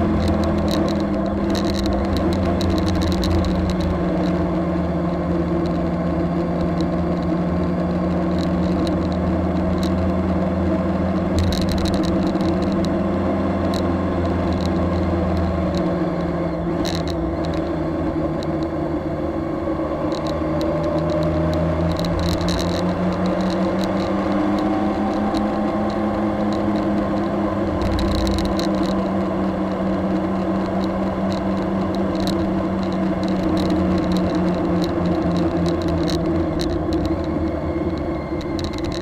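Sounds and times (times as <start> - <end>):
motorcycle engine running: 0.0 - 39.0
wind and road noise: 0.0 - 39.0.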